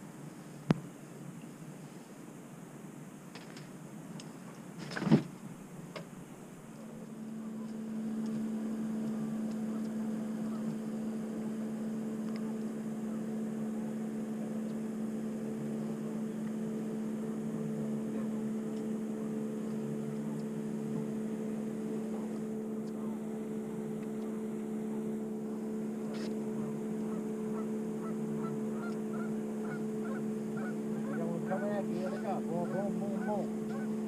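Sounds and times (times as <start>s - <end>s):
electric trolling motor hum: 2.4s - 34.0s.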